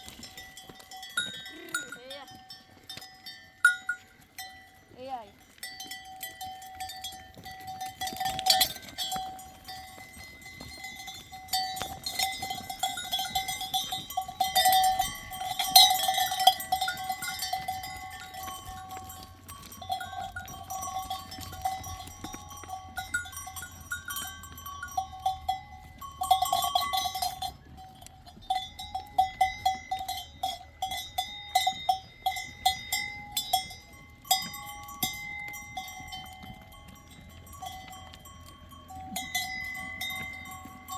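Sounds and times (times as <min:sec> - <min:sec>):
livestock bells clanking: 0:00.0 - 0:40.9.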